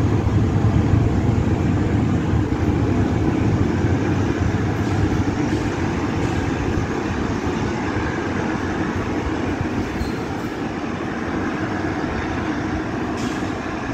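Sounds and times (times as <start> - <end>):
diesel train pulling away: 0.0 - 13.9.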